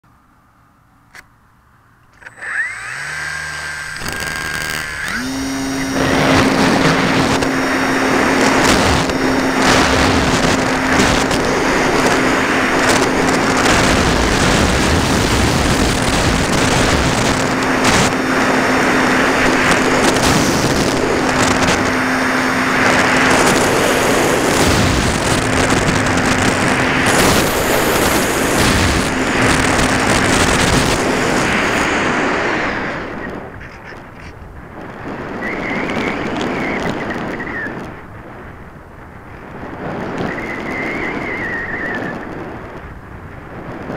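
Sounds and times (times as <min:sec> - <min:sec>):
electric motor and propeller drone: 0:02.0 - 0:38.0
wind rush: 0:02.2 - 0:43.9.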